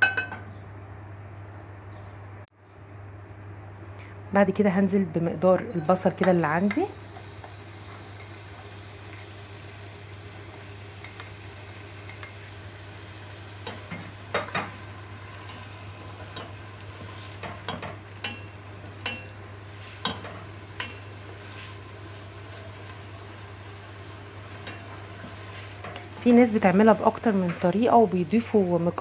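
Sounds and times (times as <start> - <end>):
onion sizzling in a pot: 5.2 - 29.0.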